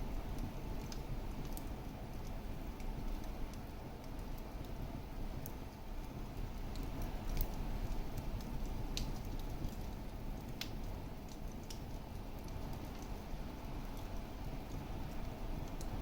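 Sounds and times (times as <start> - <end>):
fire crackling and popping: 0.0 - 16.0
low rush of flames: 0.0 - 16.0.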